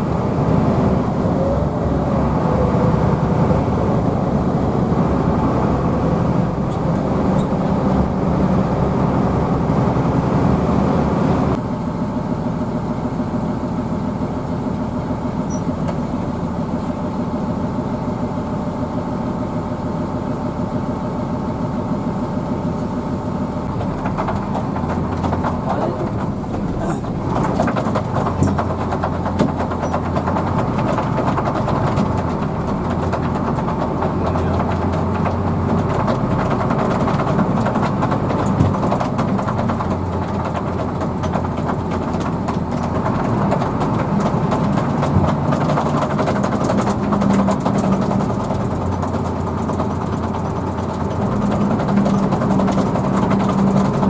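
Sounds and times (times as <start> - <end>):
bus diesel engine running: 0.0 - 54.0
deep rattling hum: 0.0 - 54.0
road noise: 0.0 - 54.0.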